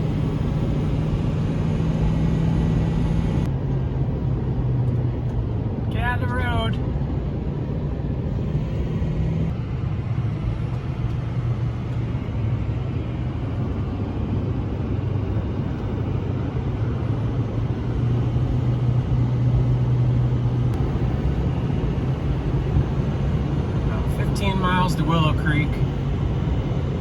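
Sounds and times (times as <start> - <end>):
road rumble: 0.0 - 27.0
truck engine drone: 0.0 - 27.0.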